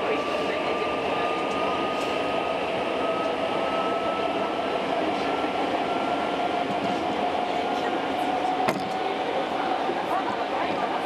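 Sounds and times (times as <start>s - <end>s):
steady train whine: 0.0s - 11.0s
train wheels rumbling on rail: 0.0s - 11.0s.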